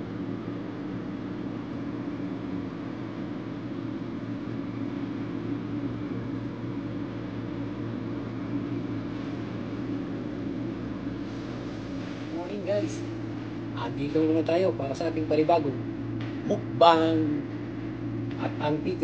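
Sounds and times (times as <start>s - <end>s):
machine humming with hiss: 0.0s - 19.0s.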